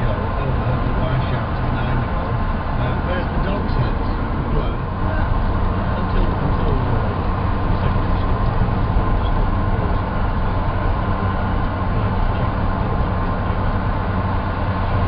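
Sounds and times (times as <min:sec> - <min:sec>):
van engine and road drone: 0:00.0 - 0:15.0.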